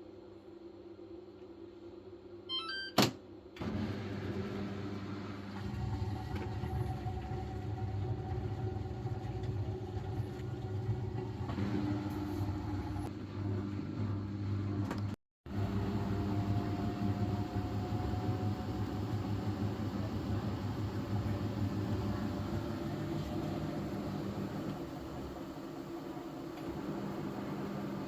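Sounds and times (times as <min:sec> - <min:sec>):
washing machine drum humming: 0:03.0 - 0:28.0.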